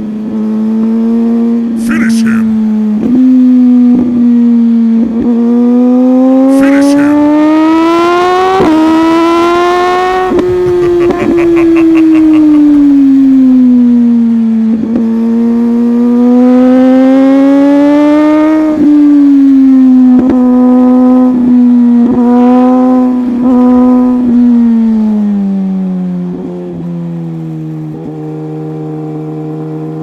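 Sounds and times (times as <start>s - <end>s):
motorcycle engine revving high: 0.2s - 25.4s.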